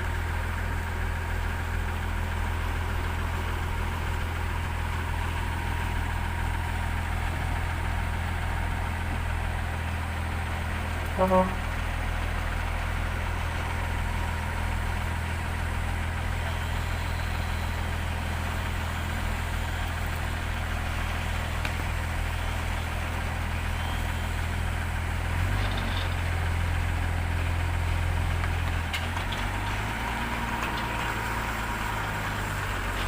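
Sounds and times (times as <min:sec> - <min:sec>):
heavy vehicle engine running: 0:00.0 - 0:33.0.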